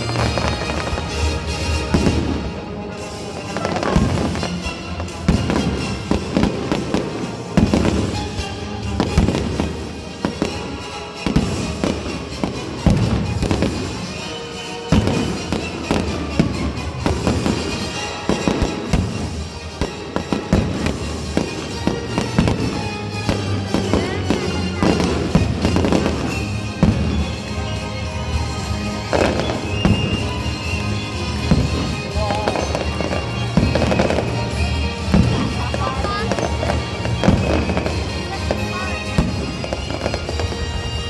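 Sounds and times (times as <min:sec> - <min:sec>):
fireworks bursting: 0:00.0 - 0:41.0
music playing: 0:00.0 - 0:41.0.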